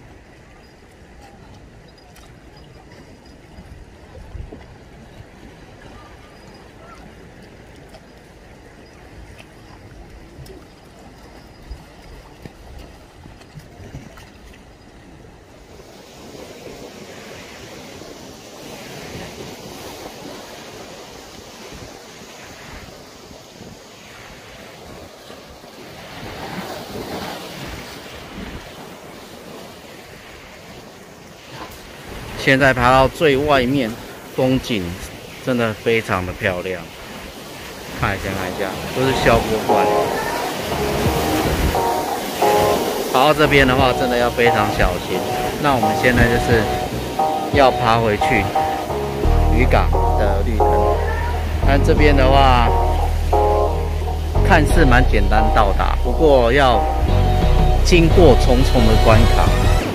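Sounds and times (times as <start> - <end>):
sea surf washing on breakwater: 0.0 - 57.1, 57.7 - 59.9
water lapping: 0.0 - 57.1.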